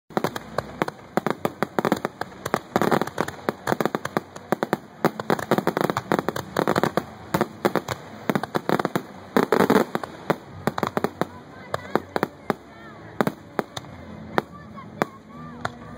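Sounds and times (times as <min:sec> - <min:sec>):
fireworks crackling and popping: 0:00.1 - 0:15.9.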